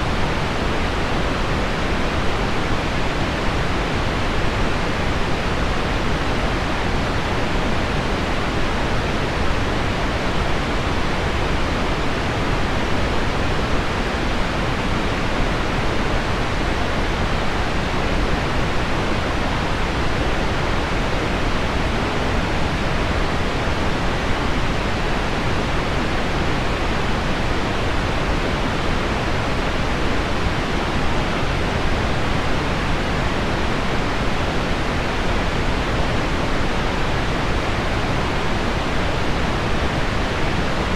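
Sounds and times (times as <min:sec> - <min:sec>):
pink noise hiss: 0:00.0 - 0:40.9.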